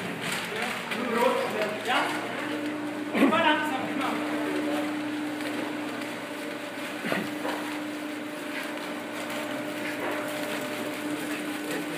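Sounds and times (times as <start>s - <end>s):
machinery drone: 0.8s - 11.9s.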